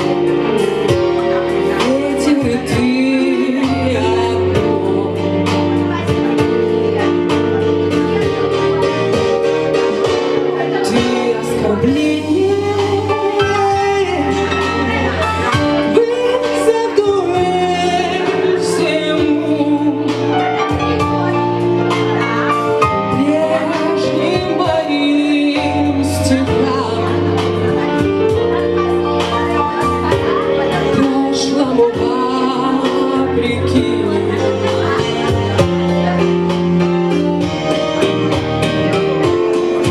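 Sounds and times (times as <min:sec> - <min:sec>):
woman singing blues: 0:00.0 - 0:08.9, 0:10.5 - 0:37.7
instrumental backing: 0:00.0 - 0:39.9.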